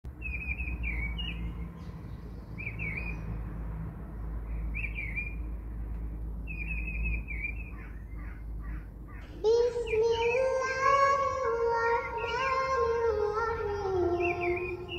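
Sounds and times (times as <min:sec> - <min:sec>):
birds chirping: 0:00.1 - 0:14.9.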